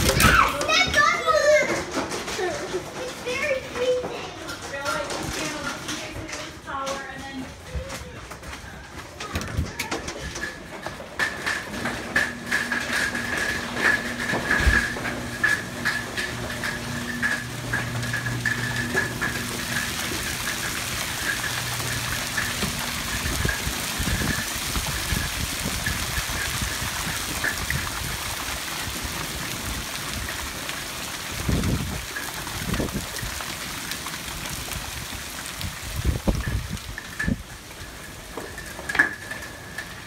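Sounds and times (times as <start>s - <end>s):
hail pelting ground: 0.0s - 40.0s.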